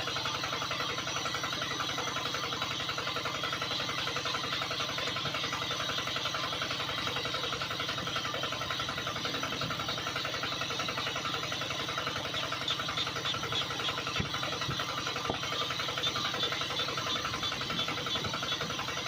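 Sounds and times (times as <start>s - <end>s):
small motor buzzing: 0.0s - 19.0s.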